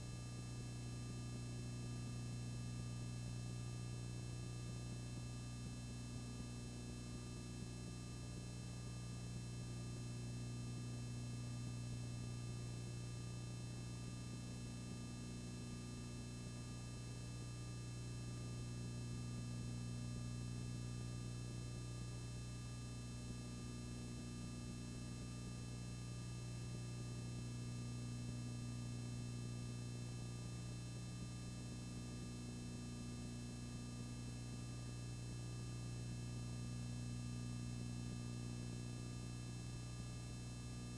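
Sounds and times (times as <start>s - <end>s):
electrical mains hum: 0.0s - 40.9s.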